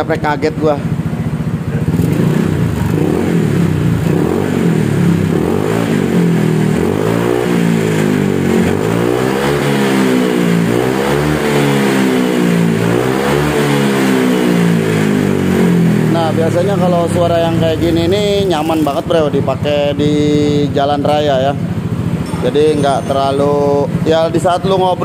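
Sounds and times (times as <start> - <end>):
scooter engine revving: 0.0 - 25.0.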